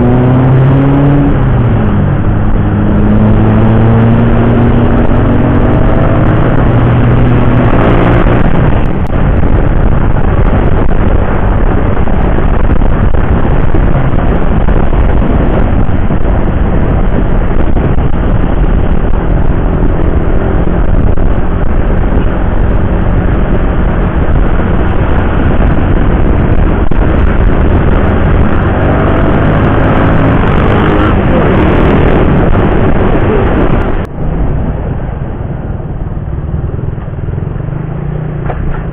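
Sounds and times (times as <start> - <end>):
motorcycle engine drone: 0.0 - 38.9
road noise: 0.0 - 38.9
wind rushing on microphone: 0.0 - 38.9.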